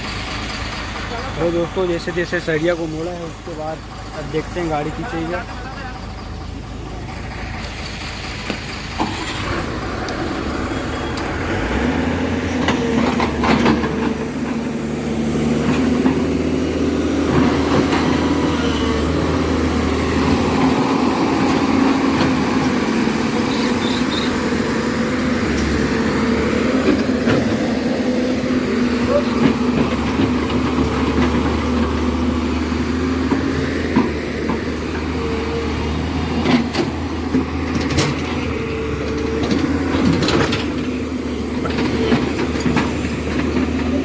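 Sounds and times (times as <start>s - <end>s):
heavy diesel engine under load: 0.0s - 44.0s.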